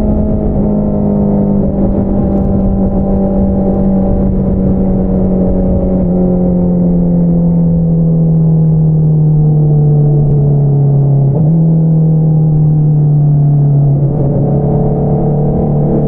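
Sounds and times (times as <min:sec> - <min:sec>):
motorcycle exhaust note: 0:00.0 - 0:16.0.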